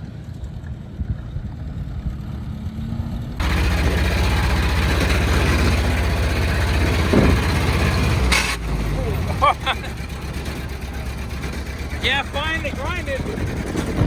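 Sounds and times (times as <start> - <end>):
car engine running: 0.2 - 14.0.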